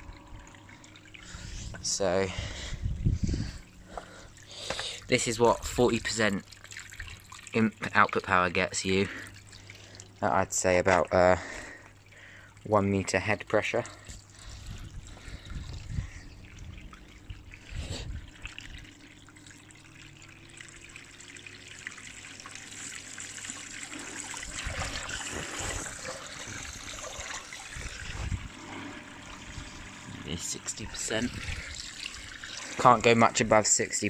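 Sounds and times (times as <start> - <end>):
water splashing down a gutter: 3.4 - 34.0.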